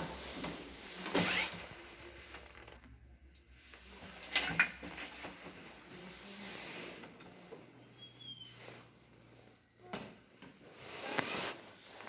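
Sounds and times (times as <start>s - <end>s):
floor creaking underfoot: 0.0s - 3.1s, 3.8s - 12.0s.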